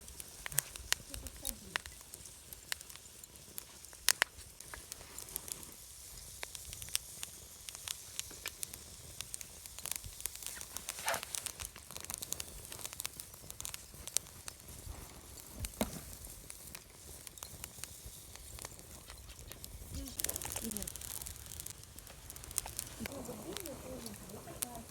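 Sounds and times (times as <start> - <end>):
fire hiss: 0.0 - 24.9
wood fire crackling: 0.0 - 24.9.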